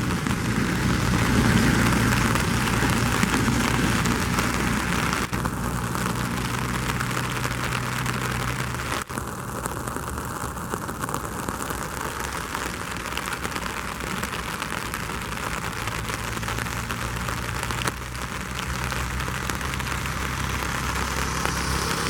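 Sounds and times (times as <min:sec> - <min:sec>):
steady rain pattering: 0:00.0 - 0:22.0.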